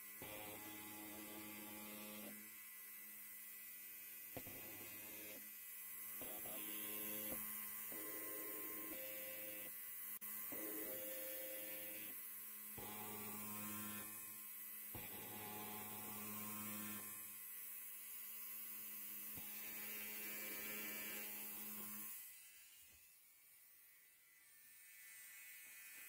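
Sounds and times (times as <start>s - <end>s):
electric hair clipper buzzing: 0.0s - 26.0s.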